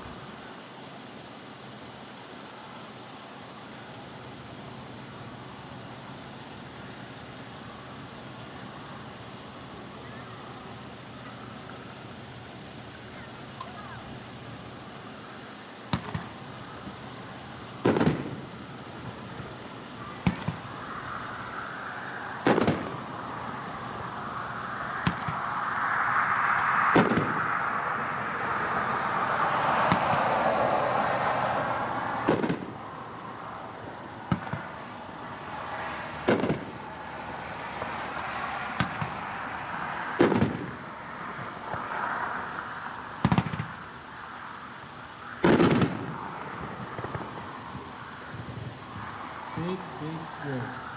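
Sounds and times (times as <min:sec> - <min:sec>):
fireworks hissing: 0:00.0 - 0:50.9
distant fireworks booms: 0:02.6 - 0:50.9.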